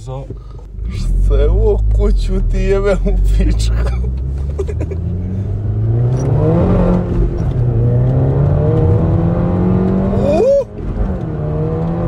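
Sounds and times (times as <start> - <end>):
turbocharged car engine accelerating: 0.7 - 12.0.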